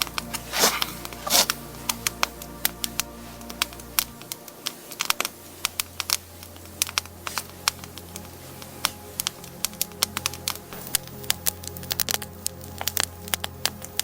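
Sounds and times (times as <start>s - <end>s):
campfire crackling and popping: 0.0s - 14.0s
soft background music: 0.0s - 14.0s.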